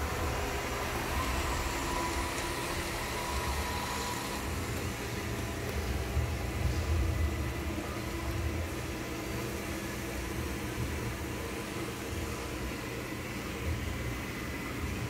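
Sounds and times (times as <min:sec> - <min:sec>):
robot vacuum motor hum: 0:00.0 - 0:13.0.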